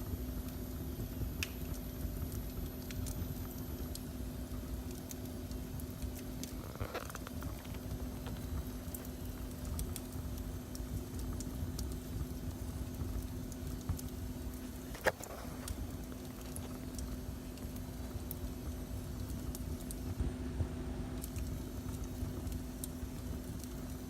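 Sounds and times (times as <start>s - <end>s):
fire crackling: 0.0s - 24.0s
steady hum: 0.0s - 24.0s.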